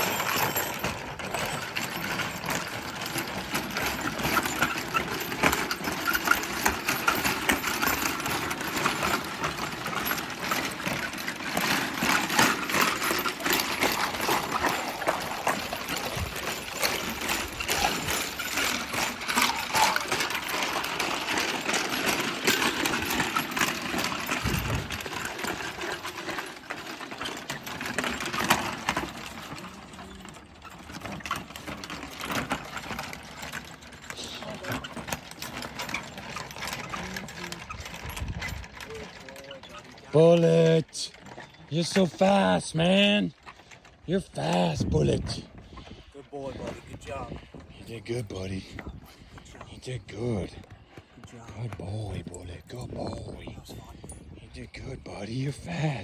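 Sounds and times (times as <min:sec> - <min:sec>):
metal chains rattling and clanking: 0:00.0 - 0:56.0.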